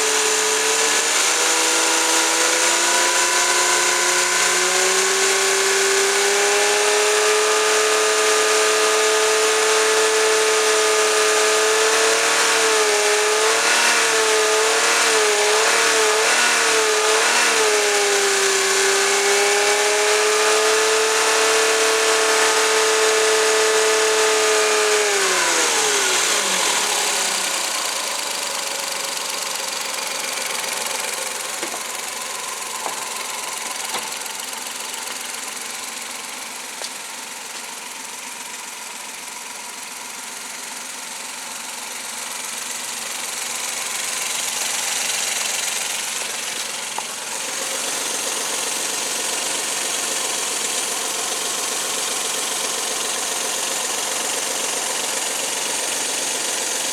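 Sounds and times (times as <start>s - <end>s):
engine running: 0.0s - 56.9s.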